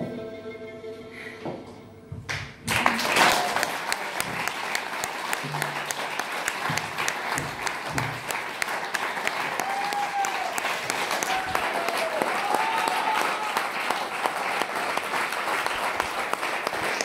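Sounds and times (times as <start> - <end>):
audience applause: 2.7 - 17.0.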